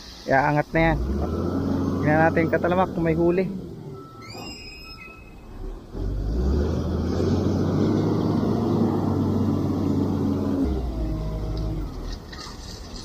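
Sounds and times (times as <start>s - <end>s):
low engine rumble: 0.1s - 13.0s.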